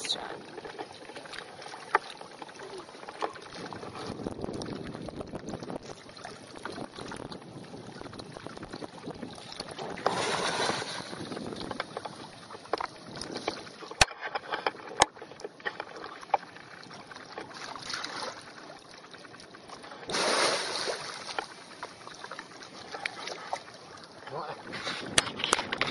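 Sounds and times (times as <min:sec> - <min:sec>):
water sloshing and splashing: 0:00.0 - 0:25.9.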